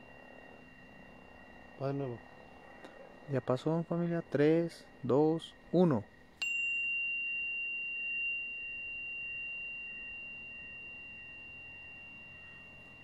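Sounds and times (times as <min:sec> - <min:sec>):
tuning fork ringing high tone: 0:00.0 - 0:13.0
tuning fork strike: 0:00.0 - 0:13.0.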